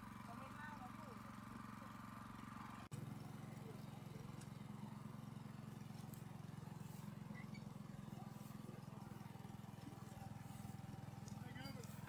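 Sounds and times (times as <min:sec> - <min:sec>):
small engine running under load: 0:00.0 - 0:12.0.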